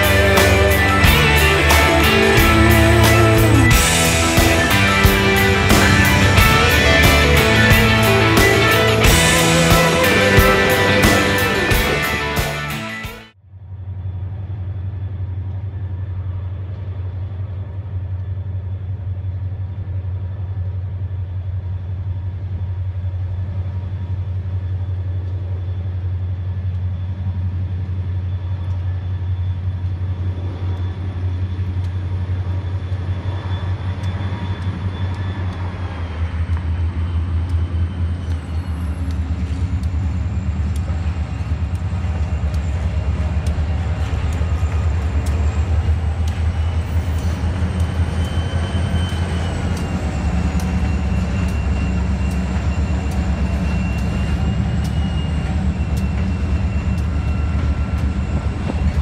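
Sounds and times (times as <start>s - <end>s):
diesel locomotive drone: 0.0s - 59.0s.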